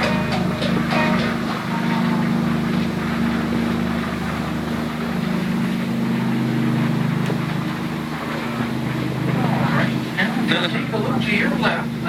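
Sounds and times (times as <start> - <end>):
boat engine droning: 0.0 - 12.0
water rushing: 0.0 - 12.0
wind: 0.0 - 12.0.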